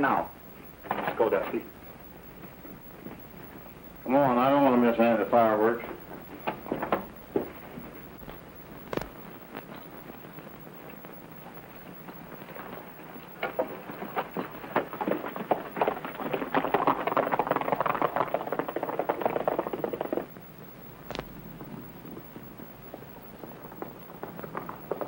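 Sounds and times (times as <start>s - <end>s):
horses galloping on hard ground: 0.0s - 25.0s.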